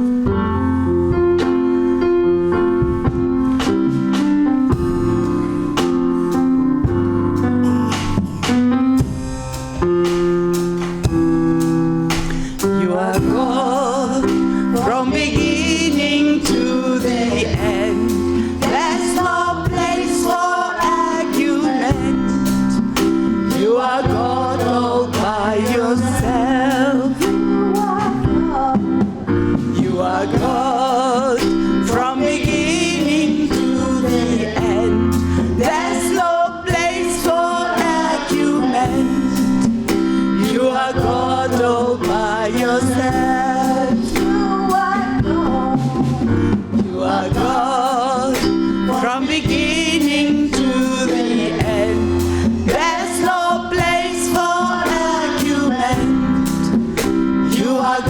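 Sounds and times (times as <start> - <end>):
group singing gospel with vibrato: 0.0 - 58.0
regular drum beat: 0.0 - 58.0
steady bass notes: 0.0 - 58.0.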